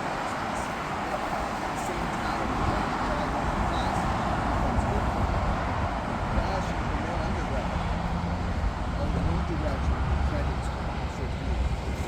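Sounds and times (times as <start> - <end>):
rumbling vehicle noise: 0.0 - 12.0.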